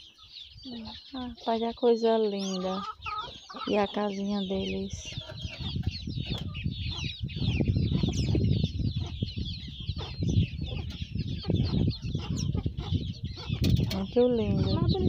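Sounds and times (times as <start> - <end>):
ducklings peeping: 0.0 - 15.0.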